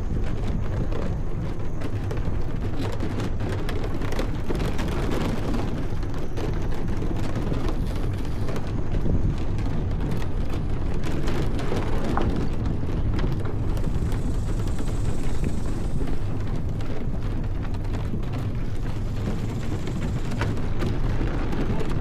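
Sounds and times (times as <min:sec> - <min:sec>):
small clicks and ticks: 0:00.0 - 0:22.0
wind buffeting microphone: 0:00.0 - 0:22.0.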